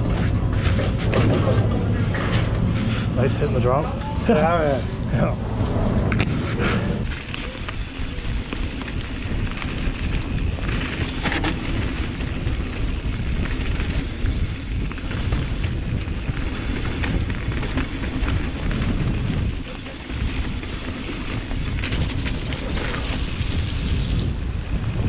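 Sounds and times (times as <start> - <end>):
bike tyre and frame noise: 0.0 - 25.0
wind rumble on microphone: 0.0 - 25.0.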